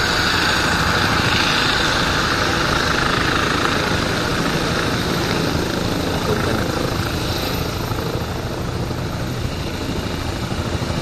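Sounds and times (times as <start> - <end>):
helicopter rotors and turbines: 0.0 - 11.0.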